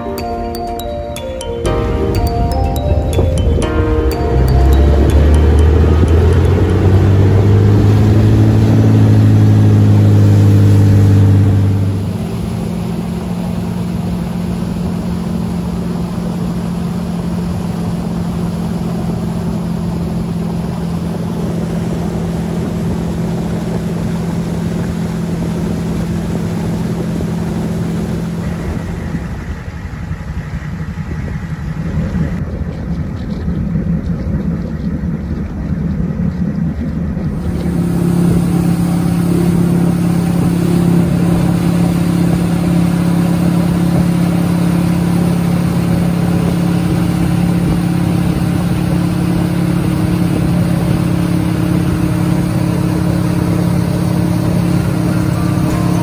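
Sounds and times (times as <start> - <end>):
rushing water and wind: 0.0 - 32.6, 35.0 - 56.0
boat engine at high throttle: 1.8 - 56.0.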